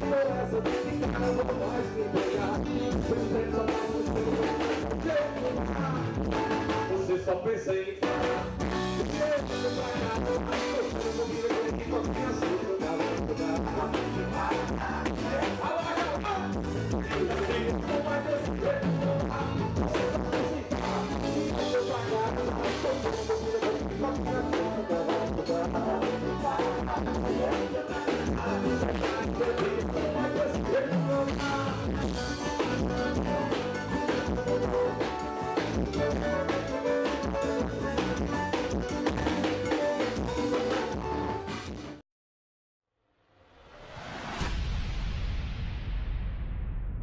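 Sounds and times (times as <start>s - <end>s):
drum kit: 0.0s - 7.1s, 8.0s - 42.0s
accordion: 0.0s - 42.0s
electric guitar: 0.0s - 42.0s.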